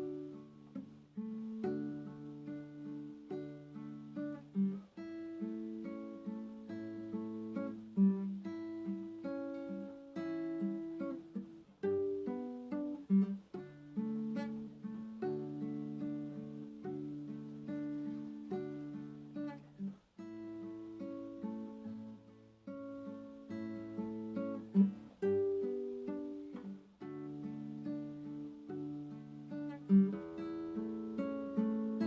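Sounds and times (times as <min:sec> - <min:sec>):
acoustic guitar played softly: 0:00.0 - 0:32.0.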